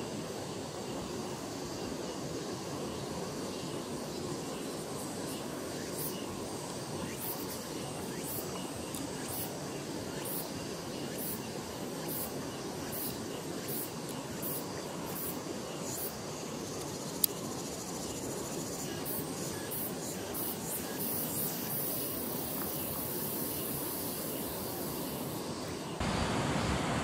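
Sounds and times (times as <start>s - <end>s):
insects chirping in pulses: 0.0s - 27.0s.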